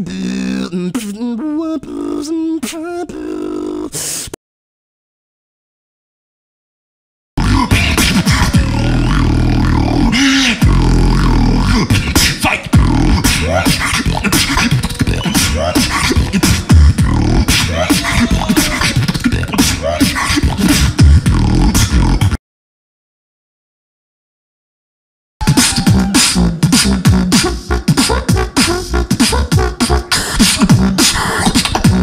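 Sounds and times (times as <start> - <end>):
person beatboxing: 0.0 - 4.4, 7.4 - 22.4, 25.4 - 32.0.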